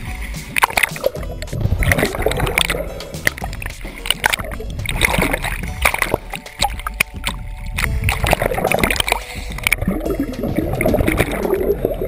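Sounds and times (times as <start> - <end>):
seawater churning and bubbling: 0.0 - 12.0.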